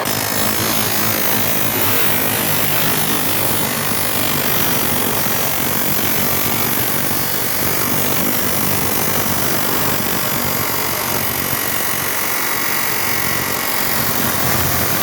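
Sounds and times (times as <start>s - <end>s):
chop saw running: 0.0s - 15.0s.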